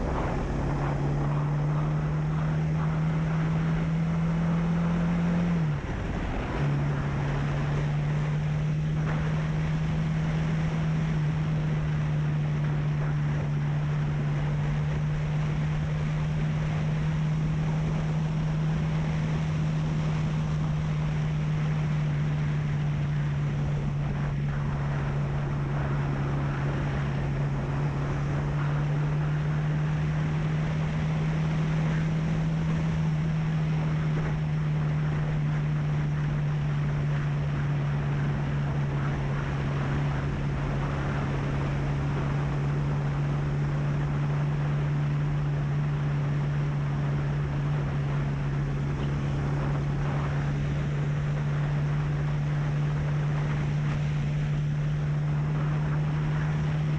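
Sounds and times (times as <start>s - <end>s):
motorcycle engine cruising: 0.0s - 56.9s
wind rushing over microphone: 0.0s - 56.9s.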